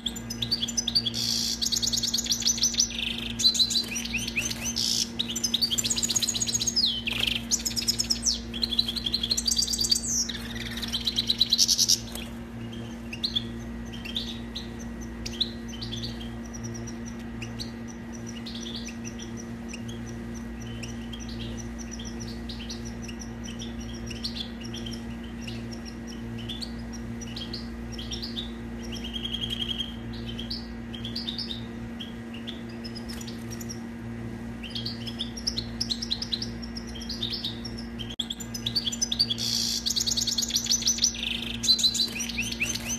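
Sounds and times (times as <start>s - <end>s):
bird twittering song: 0.0s - 42.9s
steady low hum: 0.0s - 42.9s.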